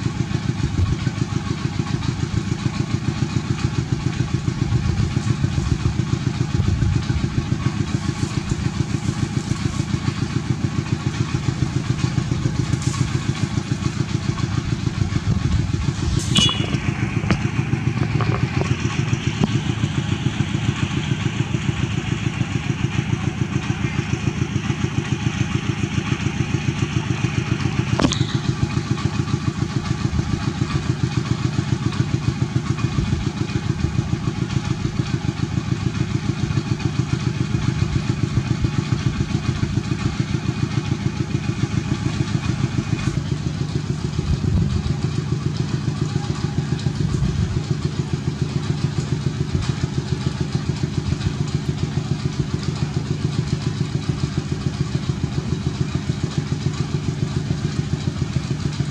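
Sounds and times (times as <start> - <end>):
small engine running: 0.0 - 58.9.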